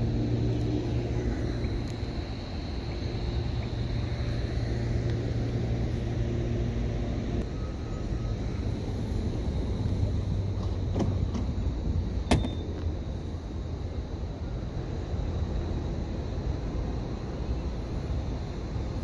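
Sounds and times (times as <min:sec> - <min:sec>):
electric train humming: 0:00.0 - 0:19.0.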